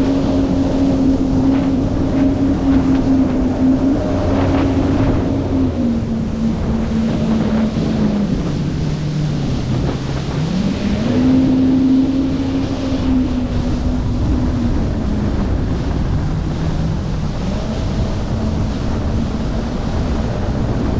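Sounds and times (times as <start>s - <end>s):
jet ski engine running: 0.0s - 20.9s
rushing water: 0.0s - 20.9s
wind noise on microphone: 0.0s - 20.9s.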